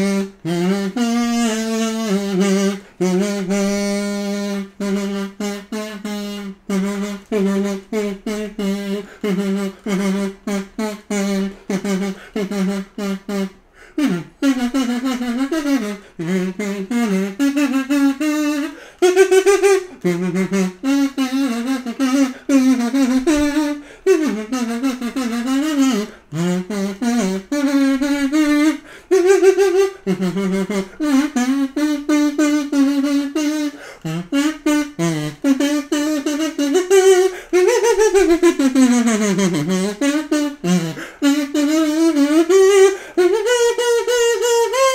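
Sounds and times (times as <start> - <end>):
kazoo melody: 0.0 - 44.9.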